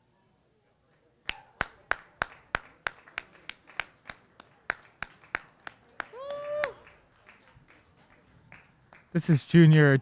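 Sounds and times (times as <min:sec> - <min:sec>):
rhythmic handclaps: 0:01.2 - 0:09.3.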